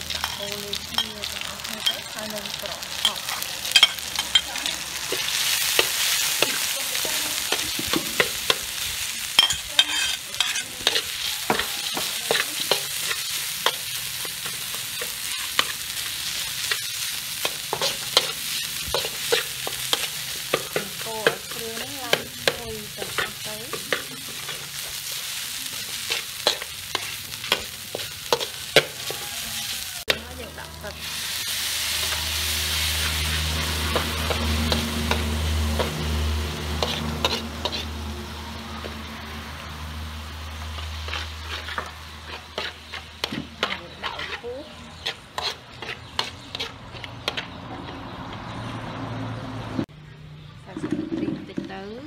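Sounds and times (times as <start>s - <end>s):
food sizzling in hot oil: 0.0s - 47.6s
metal ladle scraping wok: 2.9s - 39.5s, 40.6s - 48.5s.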